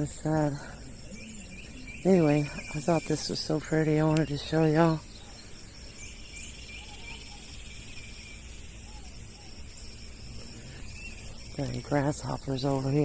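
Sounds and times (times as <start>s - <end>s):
faint bird calls: 0.0s - 11.9s
bird chirps: 0.0s - 13.0s
high insect drone: 0.0s - 13.0s.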